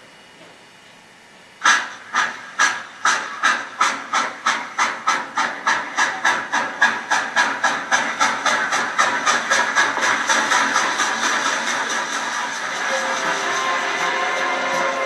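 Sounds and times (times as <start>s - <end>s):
steam locomotive chuffing: 1.6s - 15.0s.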